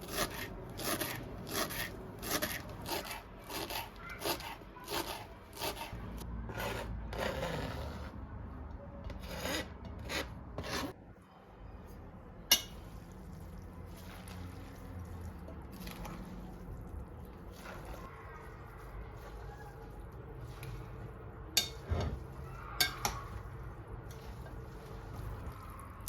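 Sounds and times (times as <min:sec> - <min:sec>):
food preparation scraping: 0:00.0 - 0:11.0, 0:11.9 - 0:26.0
low kitchen noise: 0:00.0 - 0:26.0.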